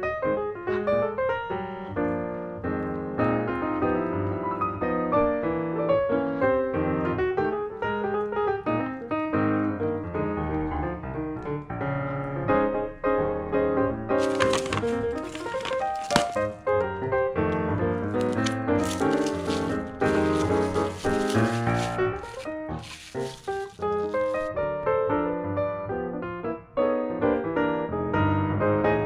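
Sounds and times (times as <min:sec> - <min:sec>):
lively piano music: 0:00.0 - 0:29.0.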